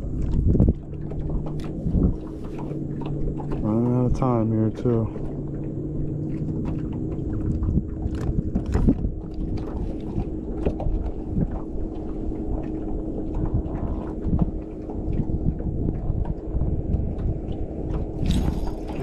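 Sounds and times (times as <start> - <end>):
boat engine low hum: 0.0 - 19.0.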